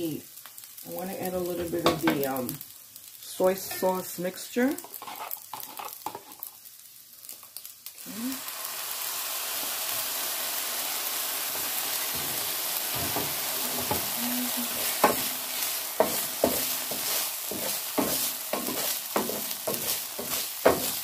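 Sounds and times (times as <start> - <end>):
fried rice sizzling in a pan: 0.0 - 21.0.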